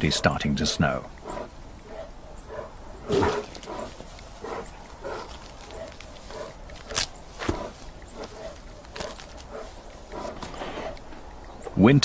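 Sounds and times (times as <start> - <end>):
bear breathing and grunting: 0.0 - 11.7.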